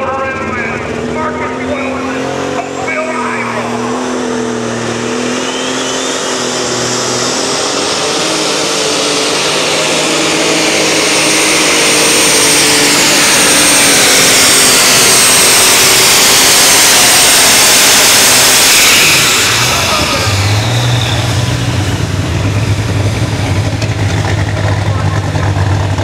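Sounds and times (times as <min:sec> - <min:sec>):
tractor engine running hard: 0:00.0 - 0:26.0.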